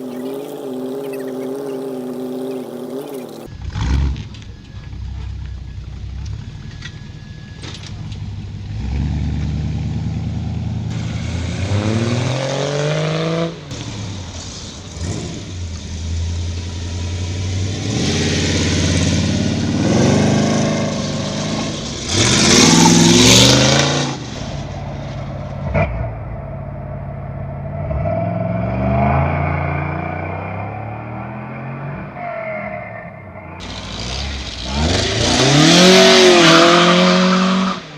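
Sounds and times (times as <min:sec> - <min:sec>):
car engines revving hard: 0:00.0 - 0:04.3, 0:08.7 - 0:26.2, 0:27.7 - 0:32.2, 0:33.6 - 0:37.9.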